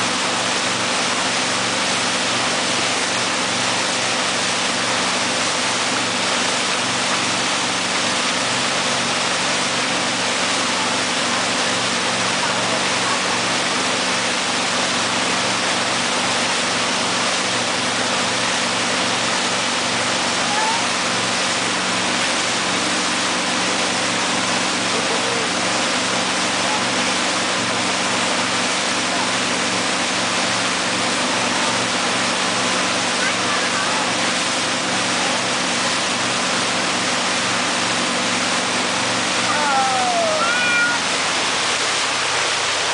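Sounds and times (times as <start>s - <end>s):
churning wake rushing: 0.0s - 42.9s
speedboat engine running: 0.0s - 42.9s.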